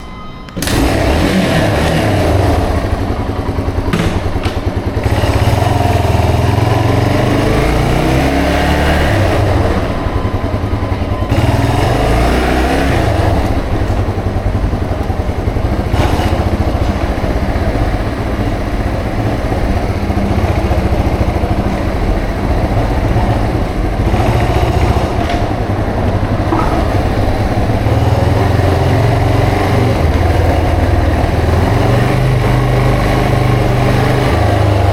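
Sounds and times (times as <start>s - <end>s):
motorcycle engine running: 0.6s - 34.9s.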